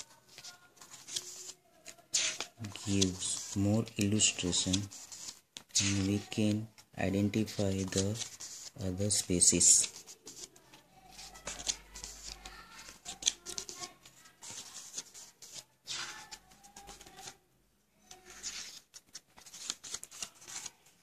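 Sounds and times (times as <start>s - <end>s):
paper pages rustling: 0.0s - 17.4s, 18.0s - 21.0s.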